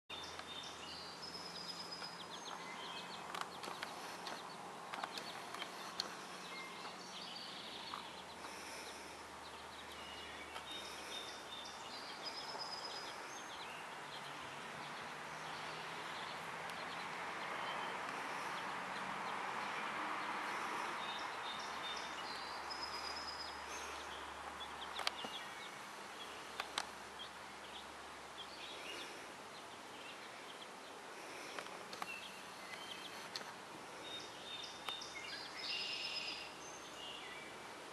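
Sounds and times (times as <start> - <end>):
outdoor background hiss: 0.1 - 37.9.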